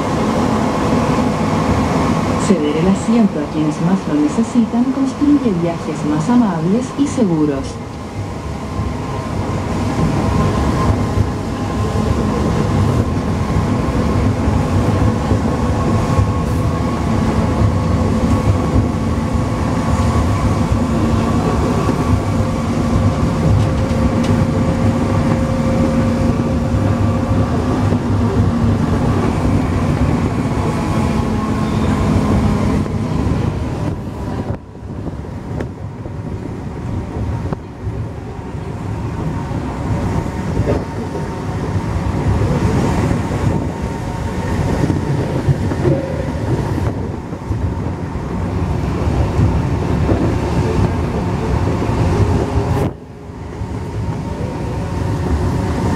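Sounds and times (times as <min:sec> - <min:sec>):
train rumble in tunnel: 0:00.0 - 0:55.9.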